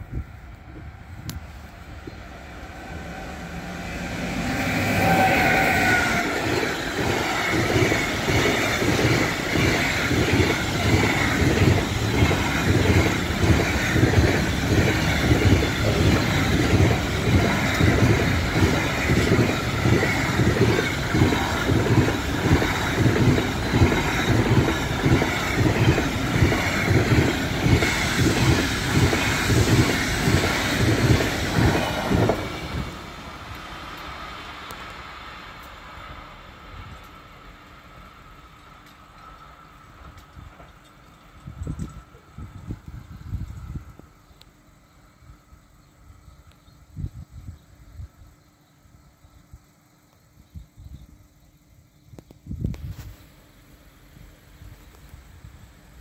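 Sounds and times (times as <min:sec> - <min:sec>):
freight train passing: 0:00.0 - 0:46.6, 0:52.8 - 0:56.0
high tone of passing locomotive: 0:00.0 - 0:56.0.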